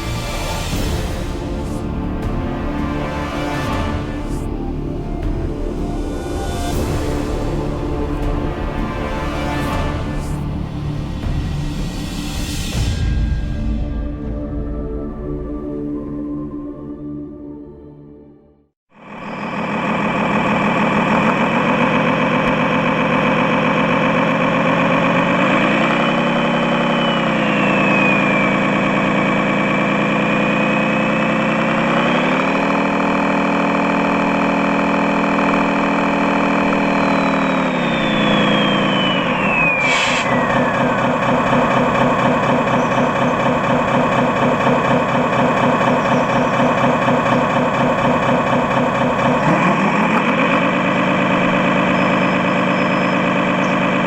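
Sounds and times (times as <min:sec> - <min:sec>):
diesel engine idling and revving: 0:00.0 - 0:13.2, 0:18.9 - 0:54.0.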